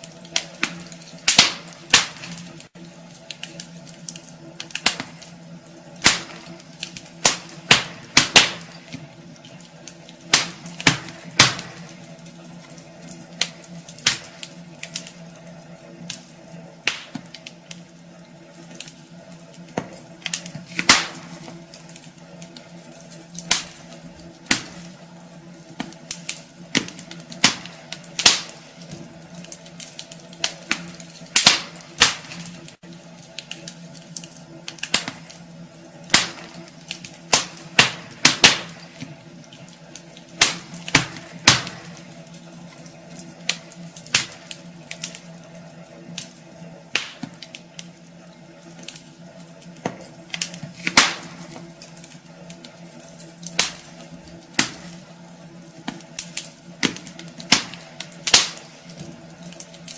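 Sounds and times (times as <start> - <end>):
steady low hum: 0.0 - 59.9
wood fire crackling: 0.0 - 59.9.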